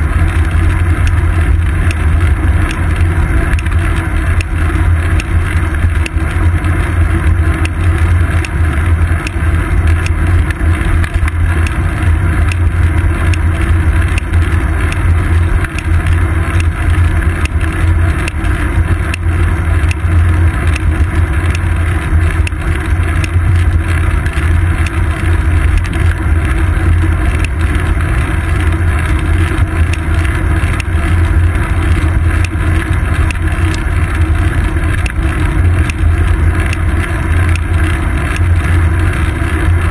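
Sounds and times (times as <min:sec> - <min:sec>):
low rumble of wind and road: 0:00.0 - 0:39.9
small clicks and knocks: 0:00.2 - 0:39.9.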